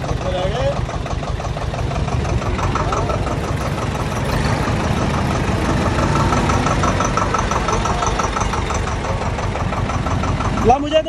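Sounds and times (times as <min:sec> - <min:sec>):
diesel tractor engine clattering: 0:00.0 - 0:11.0.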